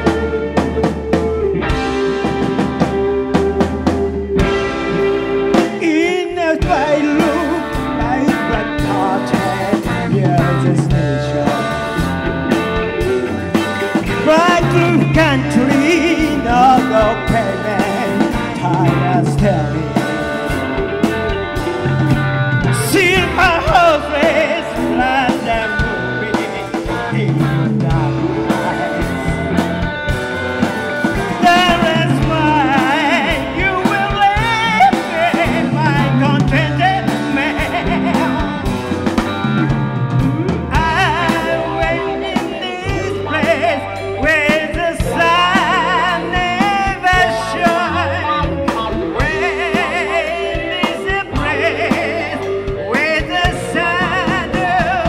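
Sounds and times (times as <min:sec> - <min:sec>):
bass guitar: 0:00.0 - 0:55.0
drum kit: 0:00.0 - 0:55.0
man singing lead: 0:00.0 - 0:55.0
overdriven electric guitars: 0:00.0 - 0:55.0.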